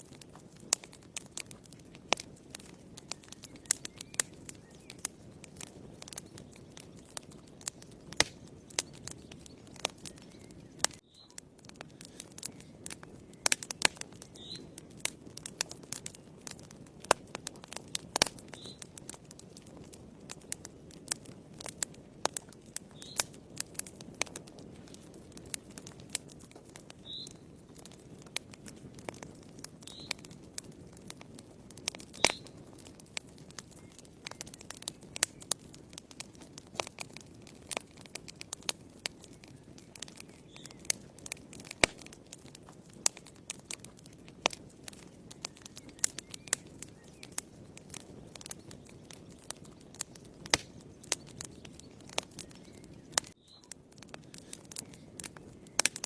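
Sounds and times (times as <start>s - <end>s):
burning wood squeaks: 0.0s - 56.0s
wood fire crackling: 0.0s - 56.0s.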